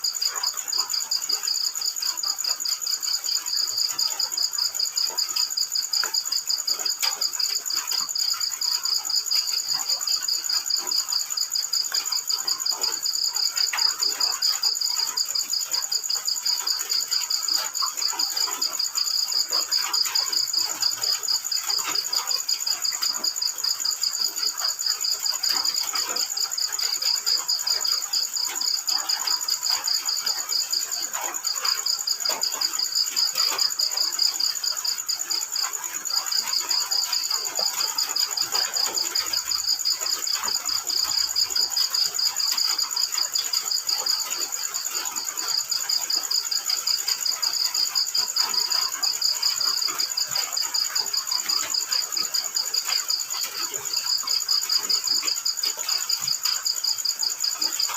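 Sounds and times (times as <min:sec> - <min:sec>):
field crickets chirping: 0:00.0 - 0:57.9
rain falling: 0:03.7 - 0:57.9.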